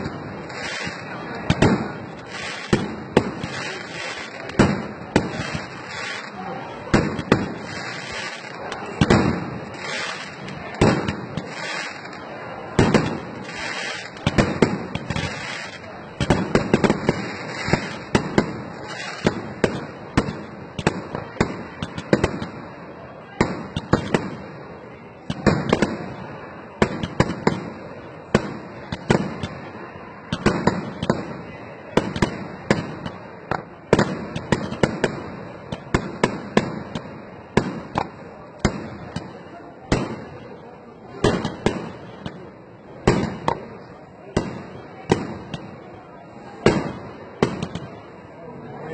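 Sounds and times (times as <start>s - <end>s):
fireworks crackling: 0.0s - 40.6s, 41.2s - 45.9s, 46.6s - 48.1s.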